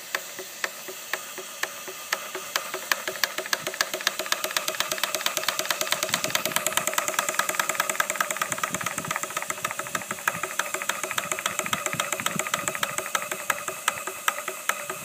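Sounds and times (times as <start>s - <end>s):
model steam engine clattering: 0.0s - 15.0s.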